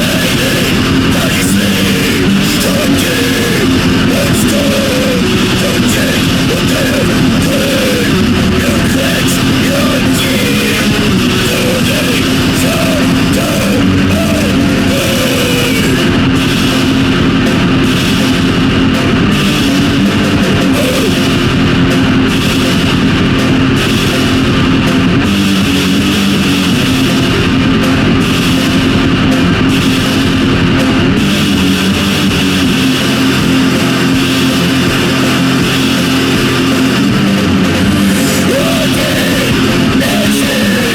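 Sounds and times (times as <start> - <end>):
heavy metal guitars and drums: 0.0 - 40.9.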